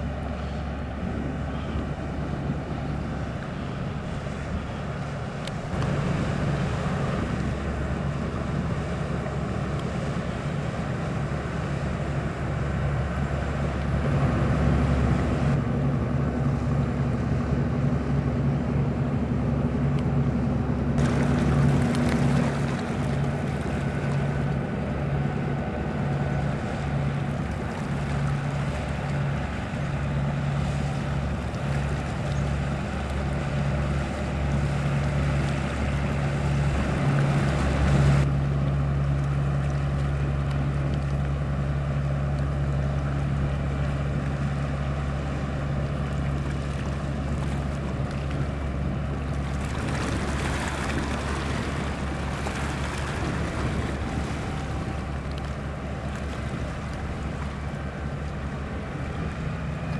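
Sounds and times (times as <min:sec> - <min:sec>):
boat diesel engines chugging: 0:00.0 - 0:59.9.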